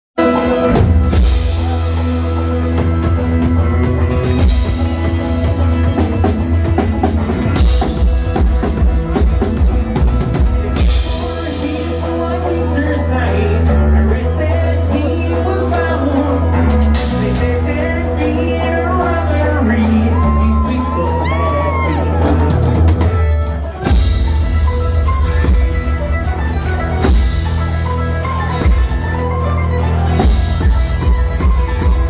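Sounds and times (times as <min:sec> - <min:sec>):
drum kit beat: 0:00.2 - 0:32.0
live rock band: 0:00.2 - 0:32.0
loud bass line: 0:00.2 - 0:32.0.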